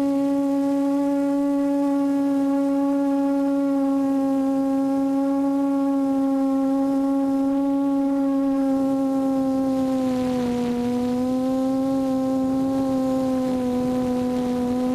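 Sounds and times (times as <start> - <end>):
quadcopter propellers humming: 0.0 - 14.9.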